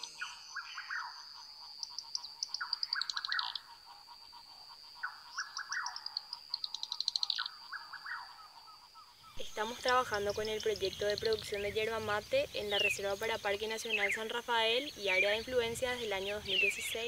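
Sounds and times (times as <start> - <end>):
animals chirping: 0.0 - 17.0.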